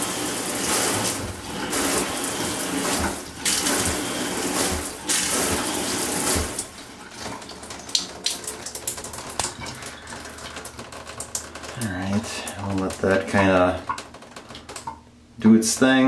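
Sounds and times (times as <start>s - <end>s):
shower water rushing: 0.0s - 14.4s
water dribbling from showerhead: 0.0s - 15.0s
water drips on tub: 0.0s - 15.1s.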